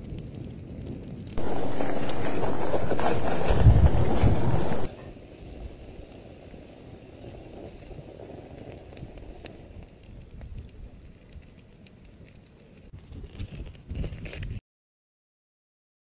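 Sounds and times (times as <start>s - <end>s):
lava flow crackling: 0.0s - 14.6s.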